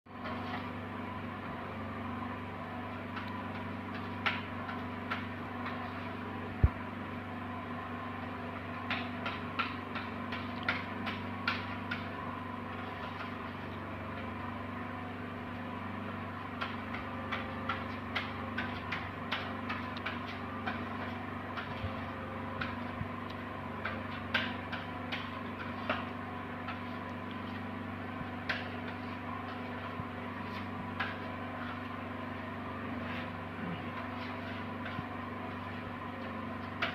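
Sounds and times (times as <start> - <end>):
steady low hum: 0.1 - 36.9.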